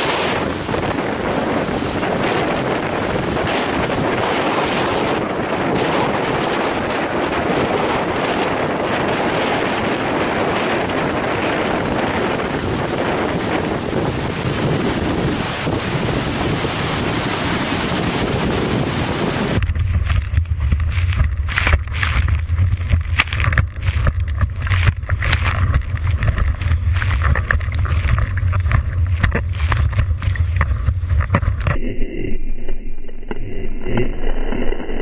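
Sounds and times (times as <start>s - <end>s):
water splashes: 0.0s - 31.8s
muffled low rumble: 0.0s - 35.0s
strong wind on microphone: 0.0s - 35.0s.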